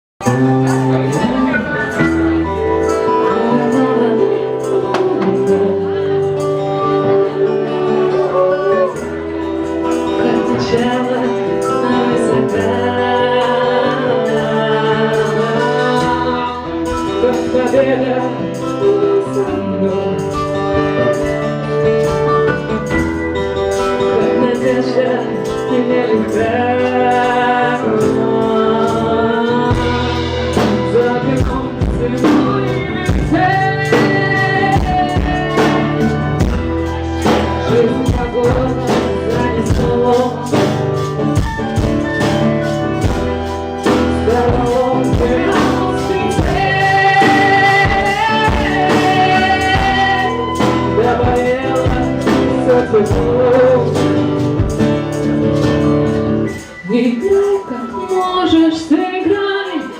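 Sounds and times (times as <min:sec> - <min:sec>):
bass guitar: 0:00.0 - 0:58.3
electric guitar: 0:00.0 - 0:59.9
drums keeping a steady beat: 0:00.2 - 0:59.9
person singing: 0:00.2 - 0:59.9.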